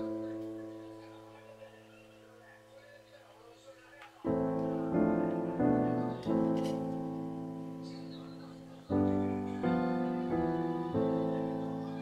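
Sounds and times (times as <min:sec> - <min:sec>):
piano chords: 0:00.0 - 0:02.5, 0:04.2 - 0:12.0.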